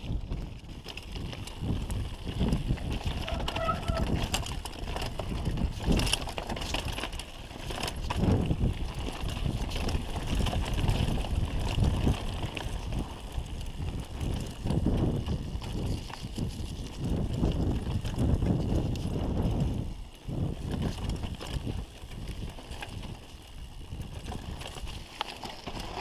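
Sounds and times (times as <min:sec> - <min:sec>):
mountain bike rattling over rocks: 0:00.0 - 0:26.0
wind buffeting microphone: 0:00.0 - 0:26.0.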